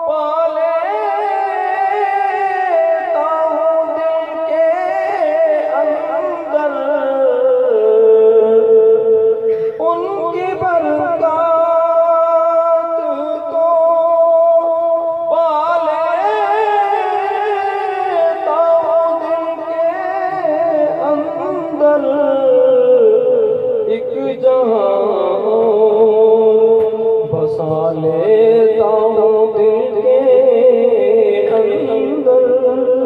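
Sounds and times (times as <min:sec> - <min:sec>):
person singing long held notes: 0:00.0 - 0:33.0.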